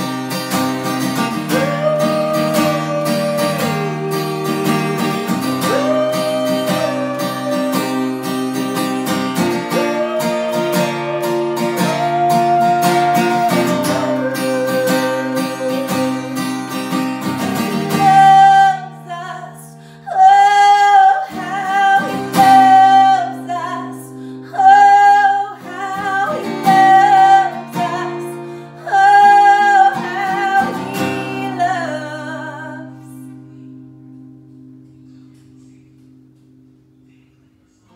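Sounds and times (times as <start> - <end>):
woman singing: 0.0 - 33.8
acoustic guitar strumming: 0.0 - 37.8.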